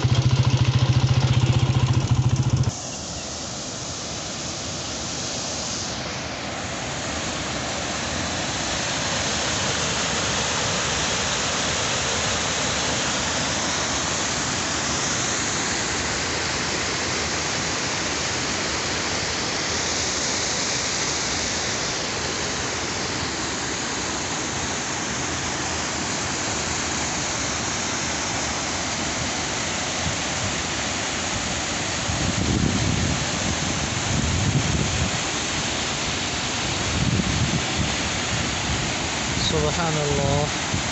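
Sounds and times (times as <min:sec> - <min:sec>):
water rushing over spillway: 0:00.0 - 0:40.9.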